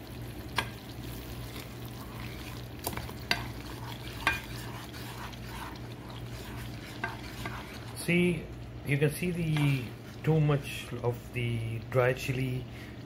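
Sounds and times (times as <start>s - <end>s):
sauce sizzling in saucepan: 0.0s - 13.0s.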